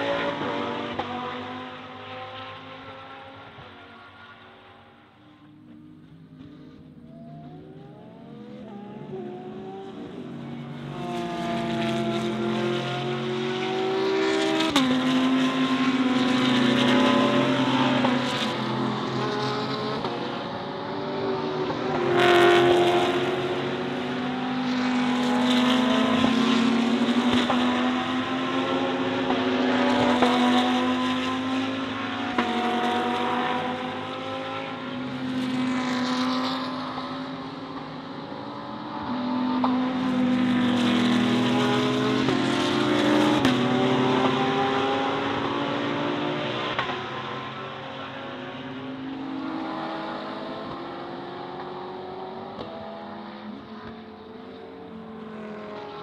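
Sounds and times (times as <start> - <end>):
race cars racing past: 0.0 - 56.0.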